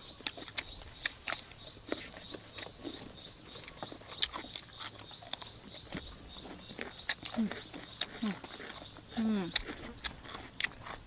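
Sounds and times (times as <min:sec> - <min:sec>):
people chewing: 0:00.0 - 0:11.0
small crunches: 0:00.2 - 0:11.0.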